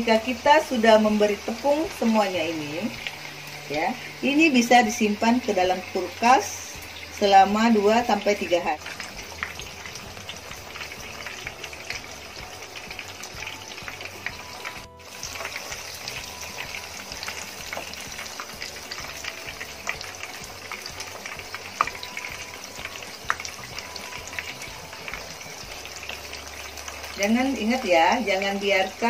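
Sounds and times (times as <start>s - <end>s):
cutlets frying in hot oil: 0.0s - 29.0s.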